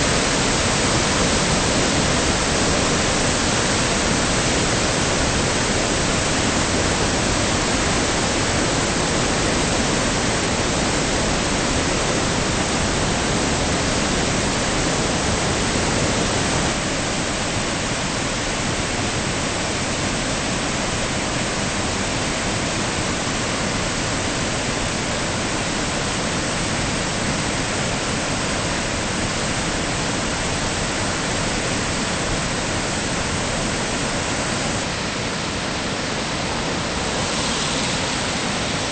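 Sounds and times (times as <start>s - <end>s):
river whitewater rushing: 0.0s - 38.9s.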